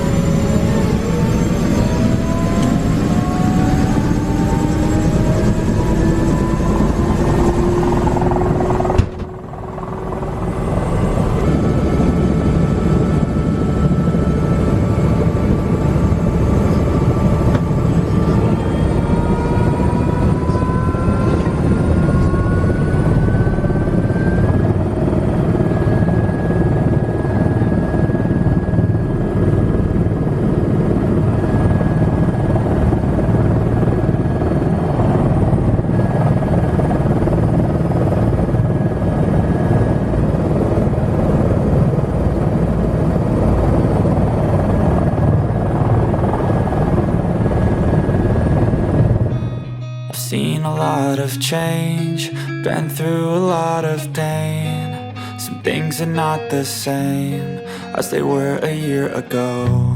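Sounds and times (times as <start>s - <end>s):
helicopter turbine and rotor: 0.0s - 53.2s.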